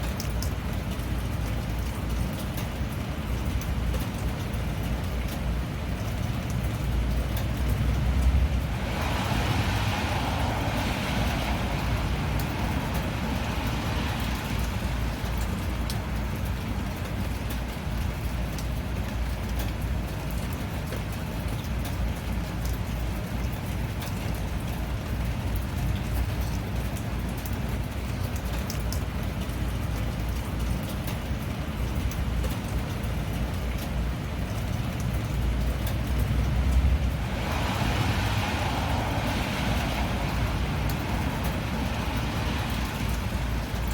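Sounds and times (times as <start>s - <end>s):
rain falling: 0.0s - 43.9s.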